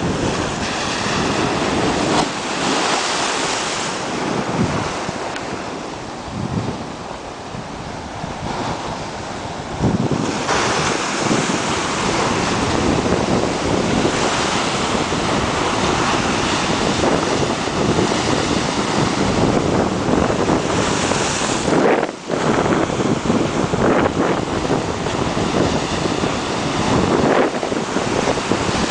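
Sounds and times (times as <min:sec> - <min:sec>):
waves breaking against sea wall: 0:00.0 - 0:28.9
wind buffeting microphone: 0:00.0 - 0:28.9.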